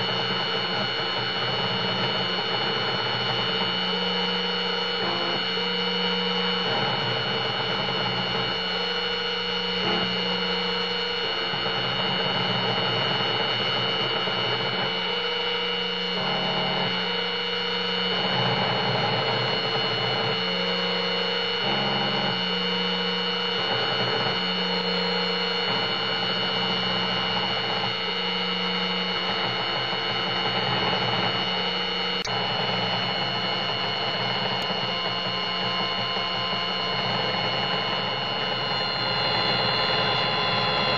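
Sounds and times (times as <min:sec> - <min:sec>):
axis motors humming: 0:00.0 - 0:40.9
spindle high whine: 0:00.0 - 0:40.9.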